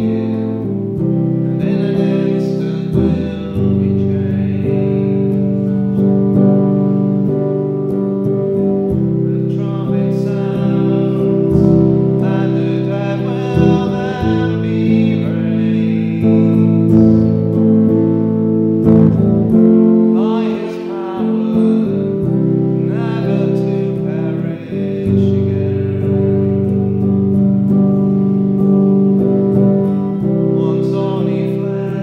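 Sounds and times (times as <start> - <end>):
man singing: 0.0 - 18.2, 18.9 - 32.0
strummed guitar: 0.0 - 32.0.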